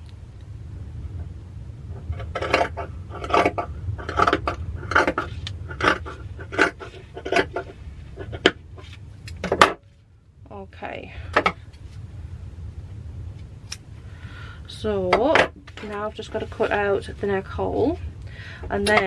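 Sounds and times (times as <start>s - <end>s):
low wind rumble: 0.0s - 19.0s.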